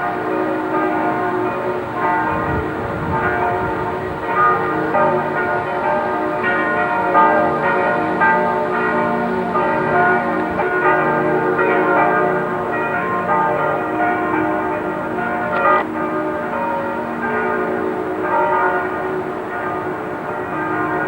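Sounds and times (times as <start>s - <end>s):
bells ringing in a peal: 0.0s - 21.0s.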